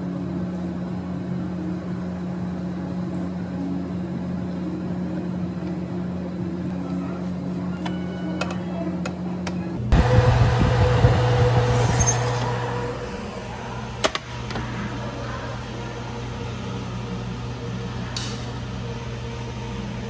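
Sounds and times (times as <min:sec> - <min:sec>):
oven fan humming: 0:00.0 - 0:20.0.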